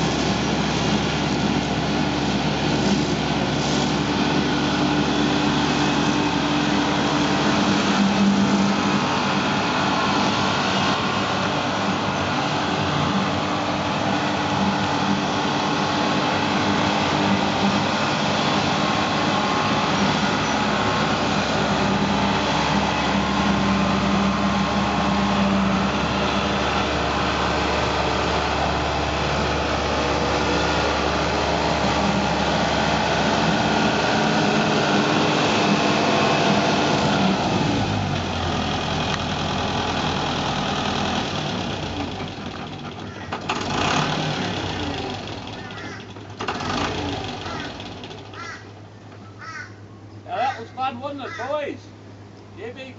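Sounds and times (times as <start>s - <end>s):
tractor engine drone: 0.0s - 52.9s.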